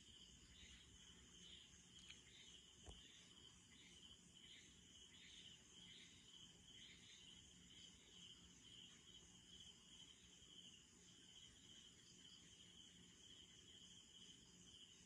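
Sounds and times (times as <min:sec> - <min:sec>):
crickets chirring: 0:00.0 - 0:15.0
high pulsing insect call: 0:00.0 - 0:15.0.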